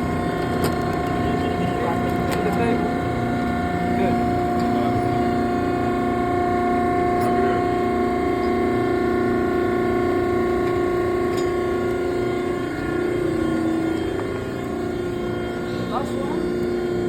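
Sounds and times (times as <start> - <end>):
hydraulic pump motor humming: 0.0 - 17.0.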